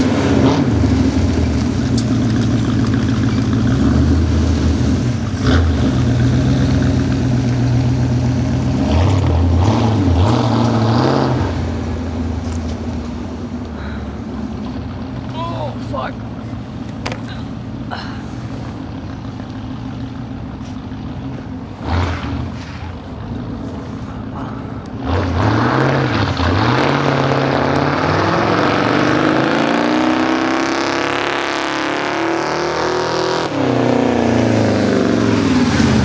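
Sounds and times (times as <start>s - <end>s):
vvight engine idling and revving: 0.0s - 36.0s.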